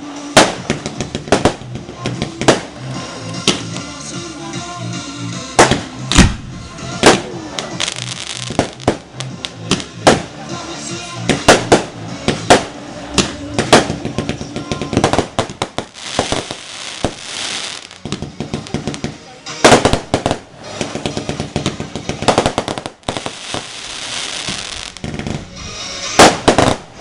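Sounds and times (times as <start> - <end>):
fireworks crackling: 0.0 - 4.1, 5.6 - 27.0
fireworks bangs: 0.2 - 3.8, 5.6 - 10.6, 11.2 - 27.0.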